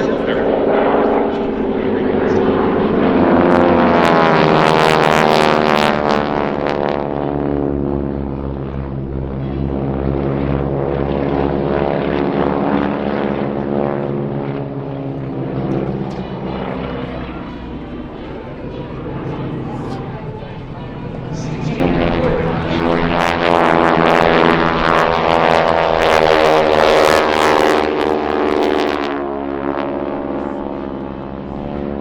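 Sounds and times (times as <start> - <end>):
propeller plane passing low: 0.0 - 32.0.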